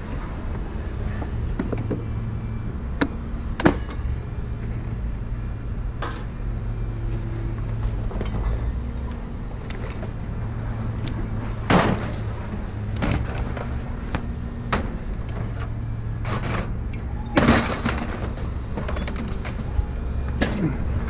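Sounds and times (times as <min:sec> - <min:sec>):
low vehicle engine hum: 0:00.0 - 0:21.0.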